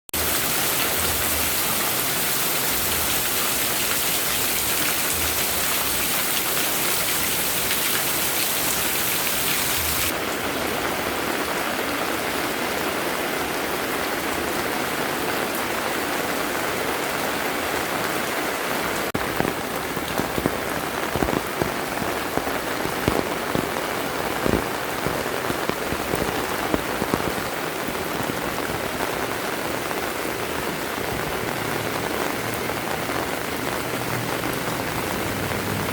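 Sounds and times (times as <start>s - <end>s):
heavy rain: 0.1s - 35.9s.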